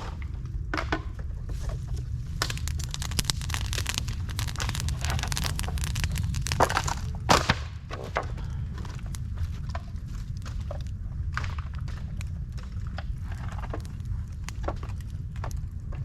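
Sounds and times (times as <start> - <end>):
fire low rumble: 0.4 - 16.0
fire crackling and popping: 1.8 - 7.5, 8.7 - 16.0.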